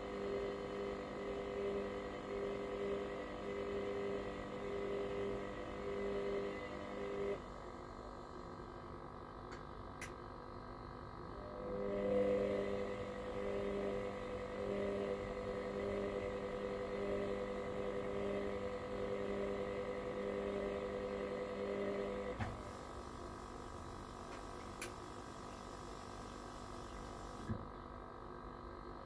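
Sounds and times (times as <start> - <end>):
washer-dryer humming: 0.0 - 7.4, 11.3 - 27.8.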